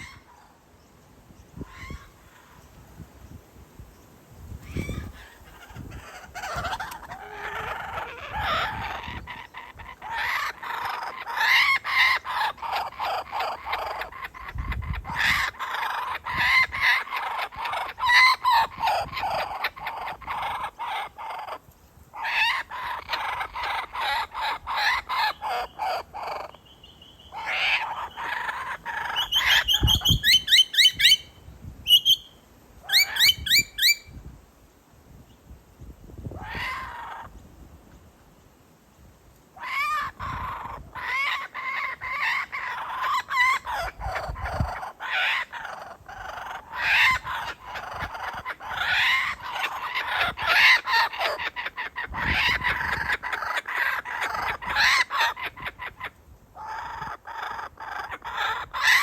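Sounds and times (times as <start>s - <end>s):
kookaburras cackling: 0.0s - 0.5s, 4.6s - 26.6s, 27.3s - 31.3s, 32.9s - 34.0s, 36.4s - 37.4s, 39.6s - 59.0s.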